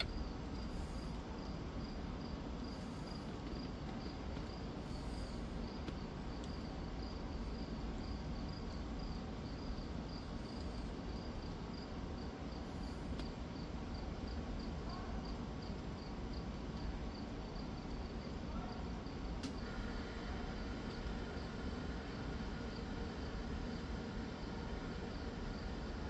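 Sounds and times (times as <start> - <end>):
night insects chirping: 0.0 - 26.0.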